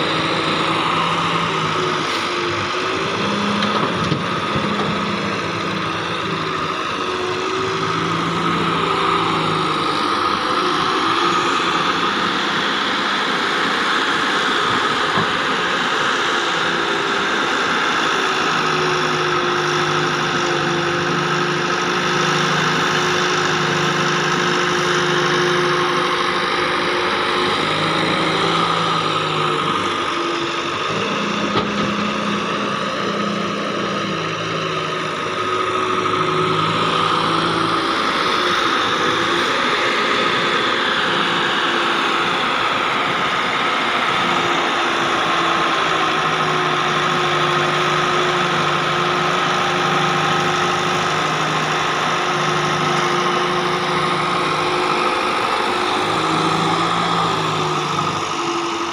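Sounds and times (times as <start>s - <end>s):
excavator diesel engine: 0.0s - 58.9s.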